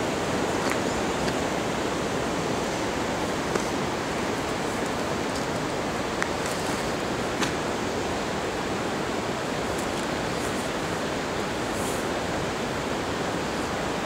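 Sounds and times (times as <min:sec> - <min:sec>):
rushing background noise: 0:00.0 - 0:14.0.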